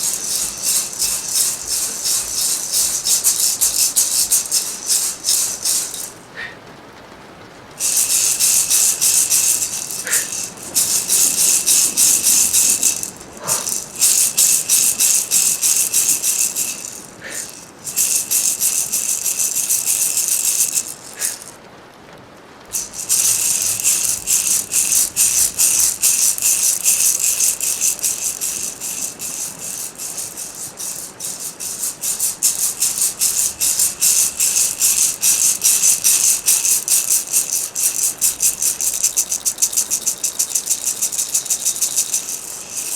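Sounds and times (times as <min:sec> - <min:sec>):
hand rattle shaken: 0:00.0 - 0:06.4, 0:07.8 - 0:21.6, 0:22.7 - 0:42.9.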